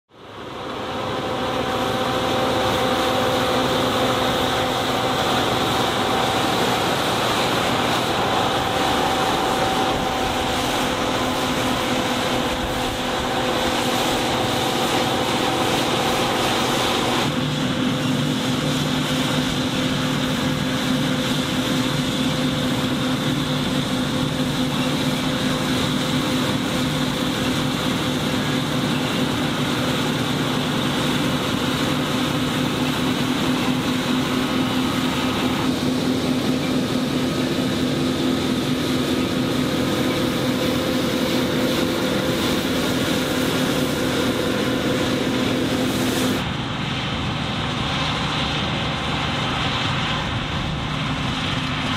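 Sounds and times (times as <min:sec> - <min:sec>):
combine harvester running: 0:00.1 - 0:51.9.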